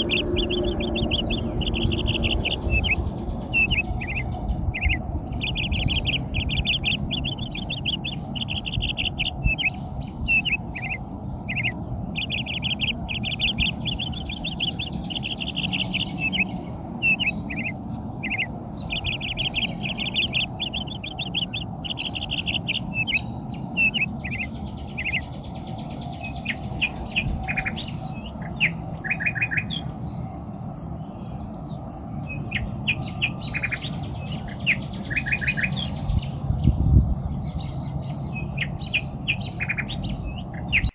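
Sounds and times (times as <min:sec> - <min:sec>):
small birds chirping: 0:00.0 - 0:40.9
steady low rumble: 0:00.0 - 0:40.9.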